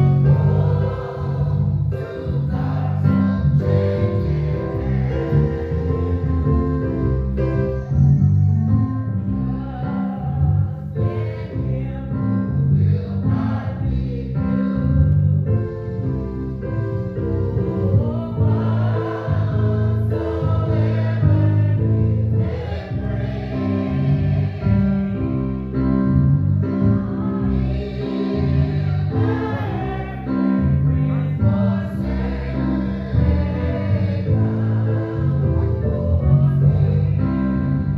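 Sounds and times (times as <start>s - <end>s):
church choir singing a hymn: 0.0s - 8.0s, 8.6s - 37.9s.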